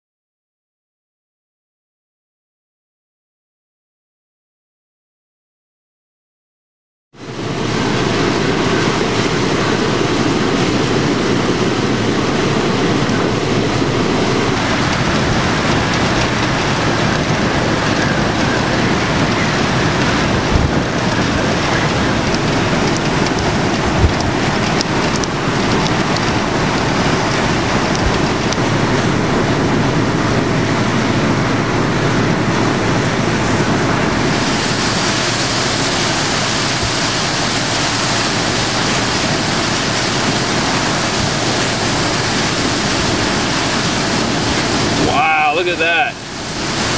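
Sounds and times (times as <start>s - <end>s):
wind buffeting microphone: 7.2s - 45.2s
breaking surf: 7.2s - 46.9s
rain: 7.2s - 46.9s.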